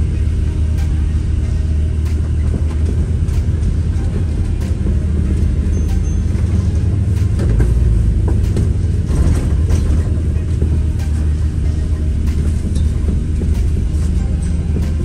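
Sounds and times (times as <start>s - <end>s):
bus engine and road rumble: 0.0s - 15.0s
bus body rattles and knocks: 2.0s - 15.0s.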